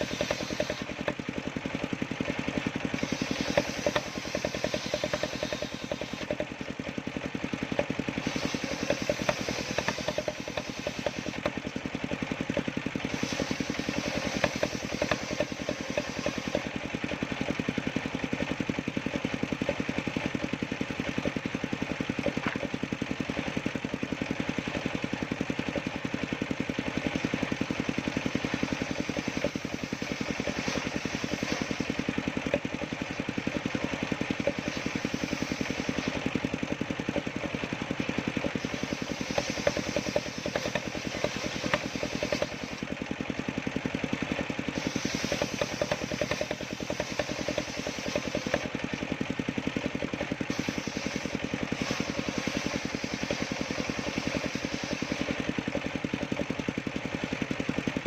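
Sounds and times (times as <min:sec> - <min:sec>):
sawmill motor pulsing: 0:00.0 - 0:58.0.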